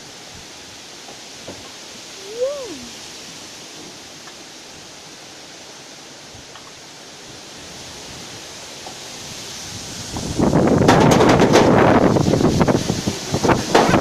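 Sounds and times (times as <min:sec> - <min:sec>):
wind blowing through trees: 0:00.0 - 0:14.0.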